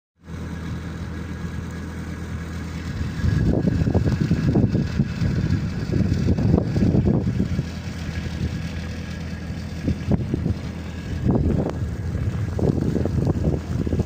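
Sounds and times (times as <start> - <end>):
engine humming: 0.2 - 14.0
uneven low rumbling: 0.2 - 14.0.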